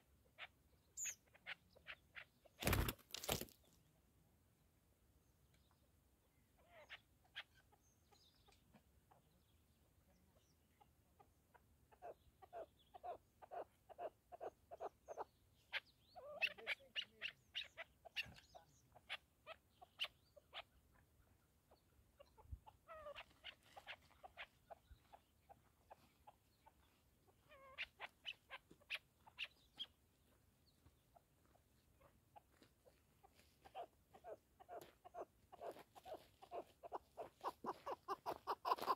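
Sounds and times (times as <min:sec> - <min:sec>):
partridge chuck calls: 0:00.0 - 0:03.4, 0:06.6 - 0:38.9.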